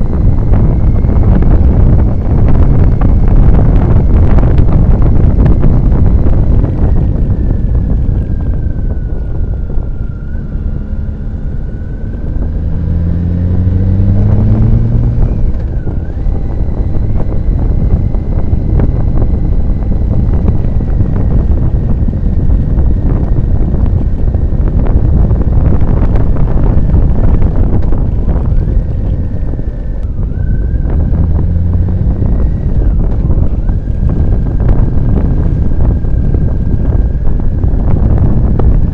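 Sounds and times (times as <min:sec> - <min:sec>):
motorcycle engine accelerating: 0:00.0 - 0:38.9
wind buffeting microphone: 0:00.0 - 0:38.9.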